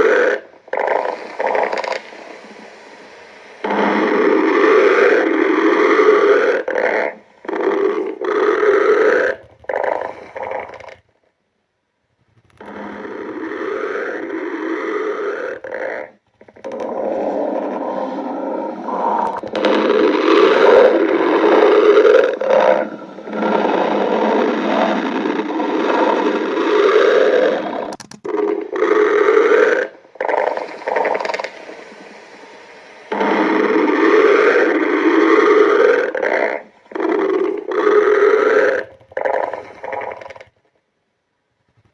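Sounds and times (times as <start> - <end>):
stomach growling: 0.0 - 11.3, 12.1 - 40.9.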